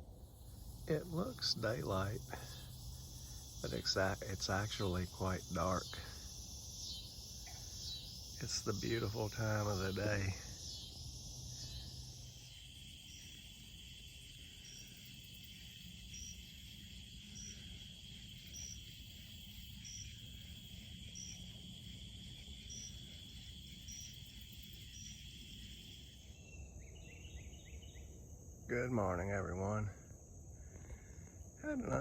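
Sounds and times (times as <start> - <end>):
insect chirp: 0.0 - 32.0
insect high trill: 0.0 - 32.0.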